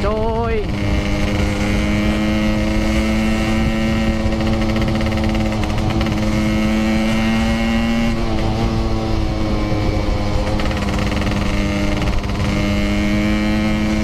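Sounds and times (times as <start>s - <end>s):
motorcycle engine running: 0.0s - 14.0s
wind rumble on microphone: 0.0s - 14.0s.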